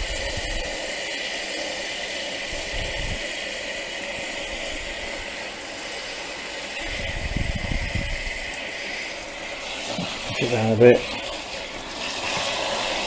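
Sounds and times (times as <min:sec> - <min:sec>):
washing machine motor whirring: 0:00.0 - 0:13.0.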